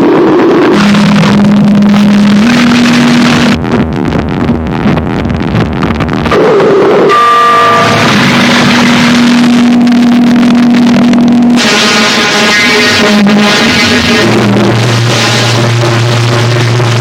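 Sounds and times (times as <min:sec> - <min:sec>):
distorted noise music: 0:00.0 - 0:17.0
low drone: 0:00.0 - 0:17.0.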